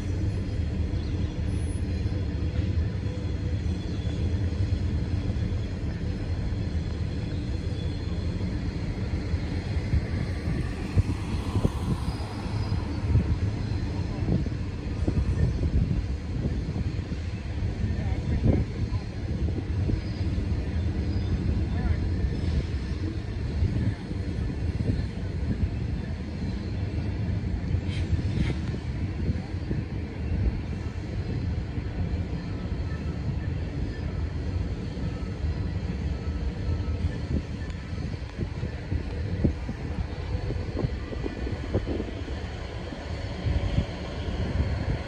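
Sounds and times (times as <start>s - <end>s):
distant freight train rumbling: 0.0s - 45.0s.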